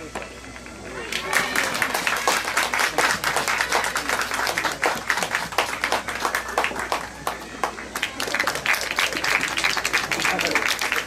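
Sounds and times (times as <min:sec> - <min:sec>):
spectators clapping: 0:01.0 - 0:11.0.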